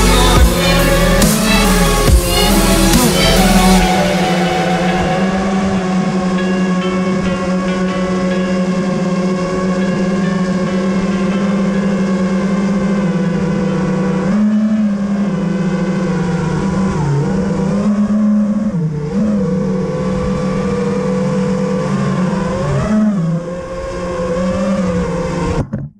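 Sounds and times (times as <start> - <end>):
quadcopter motors whining: 0.0 - 25.6.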